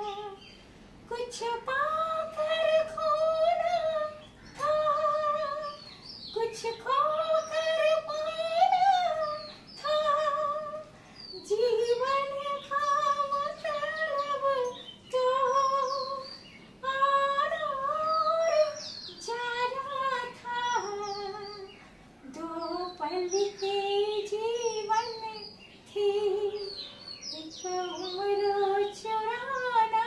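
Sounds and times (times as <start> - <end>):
woman singing unaccompanied: 0.0 - 30.0.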